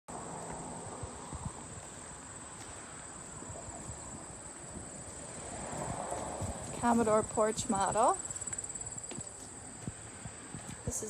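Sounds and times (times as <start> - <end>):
insect trill: 0.8 - 10.4
soft low thumps: 0.9 - 11.0.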